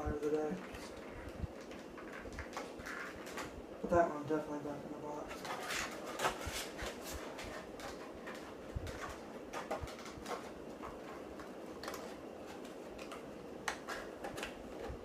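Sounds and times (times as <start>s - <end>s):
cardboard and plastic packaging clicks: 0.2s - 3.6s, 5.3s - 15.0s.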